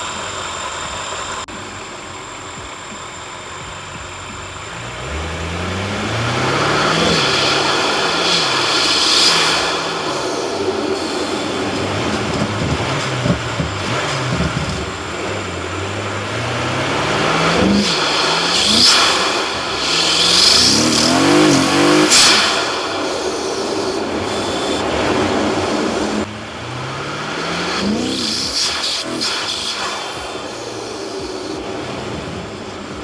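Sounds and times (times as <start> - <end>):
car engine revving hard: 0.0 - 33.0
intake swoosh: 5.7 - 33.0.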